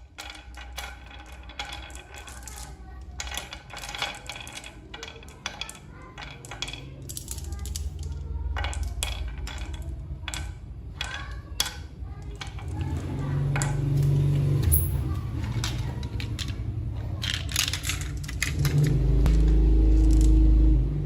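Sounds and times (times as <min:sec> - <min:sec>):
small hard parts clattering: 0:00.0 - 0:20.4.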